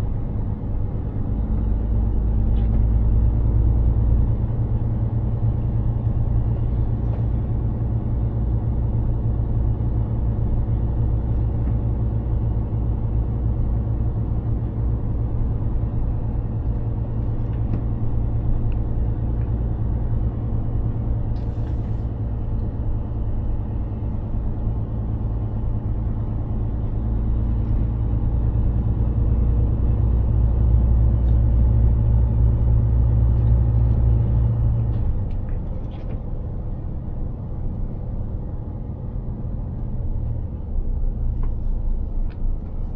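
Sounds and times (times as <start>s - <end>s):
truck engine and road drone: 0.0s - 42.9s.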